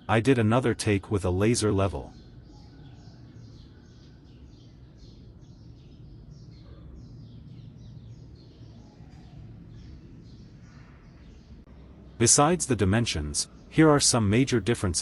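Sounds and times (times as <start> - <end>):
bird chirping: 0.0 - 15.0
low steady hum: 0.0 - 15.0.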